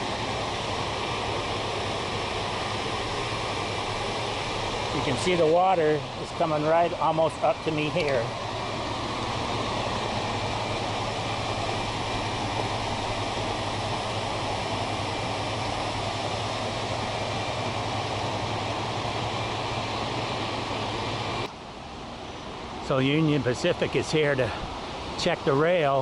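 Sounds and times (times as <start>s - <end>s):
floodwater rushing: 0.0s - 21.5s
low steady hum: 0.0s - 26.0s.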